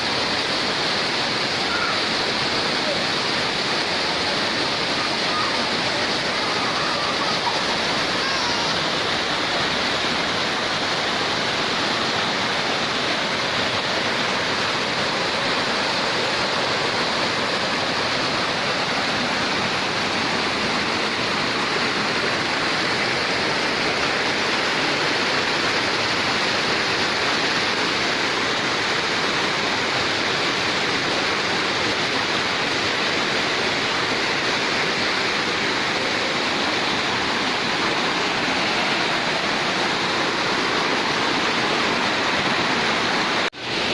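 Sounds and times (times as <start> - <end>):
waterfall pouring into pool: 0.0 - 43.9.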